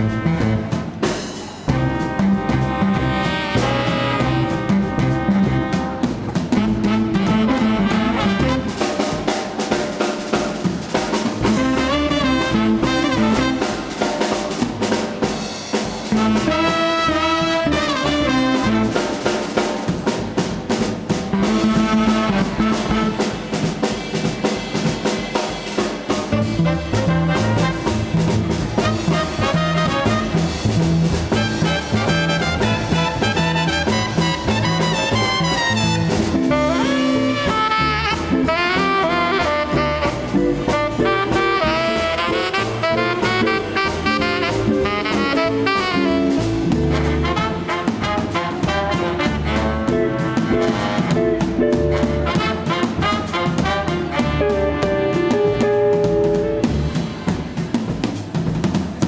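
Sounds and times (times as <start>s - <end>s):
swing band playing: 0.0s - 59.0s.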